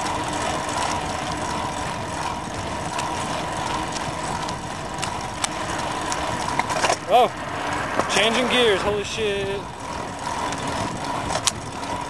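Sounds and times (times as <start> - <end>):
bike clicks and rattles: 0.0 - 7.0, 9.3 - 12.0
bicycle tyres and wind rushing: 0.0 - 12.0.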